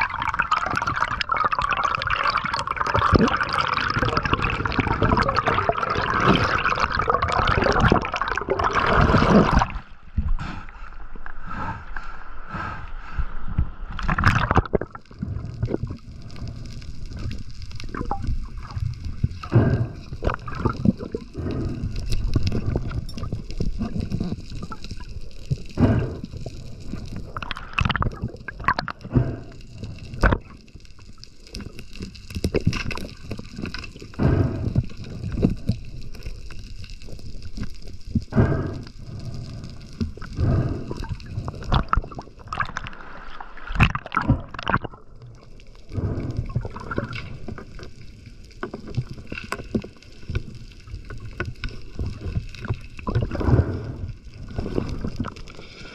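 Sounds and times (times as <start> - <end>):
knocks and clicks underwater: 0.0 - 10.6, 13.5 - 55.8
underwater gurgling bubbles: 0.0 - 11.8, 13.5 - 55.9
low underwater wash: 0.0 - 55.9.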